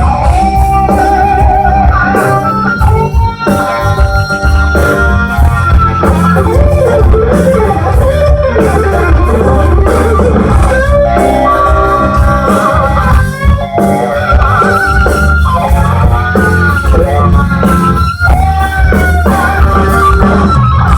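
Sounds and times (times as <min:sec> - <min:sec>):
electric guitar lead with bent notes: 0:00.0 - 0:20.9
sustained bass: 0:00.0 - 0:20.9.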